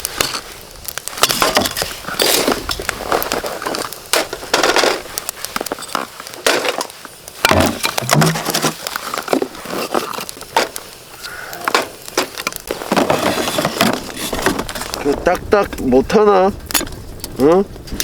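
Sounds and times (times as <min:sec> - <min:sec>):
firewood cracking and knocking: 0:00.0 - 0:18.0.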